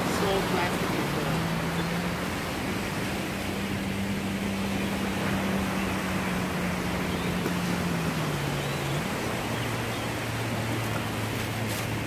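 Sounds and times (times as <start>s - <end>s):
waves washing onto sandy shore: 0.0s - 12.0s.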